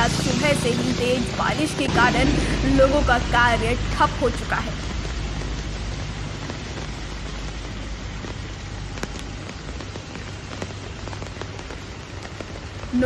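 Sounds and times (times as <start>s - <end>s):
heavy rain on wet road: 0.0s - 13.0s
low rumble: 0.0s - 13.0s.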